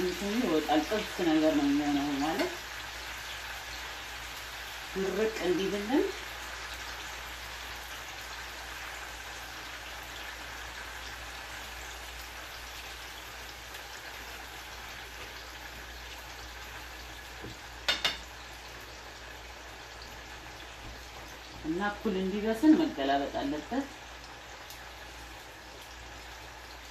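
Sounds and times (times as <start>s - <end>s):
meat sizzling in hot oil: 0.0s - 26.9s.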